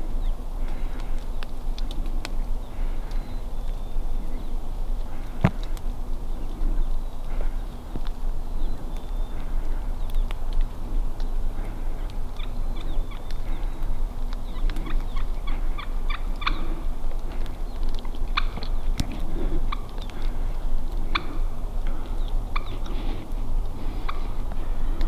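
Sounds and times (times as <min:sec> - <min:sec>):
low wind rumble: 0:00.0 - 0:25.0
wild turkey calling: 0:02.2 - 0:25.0.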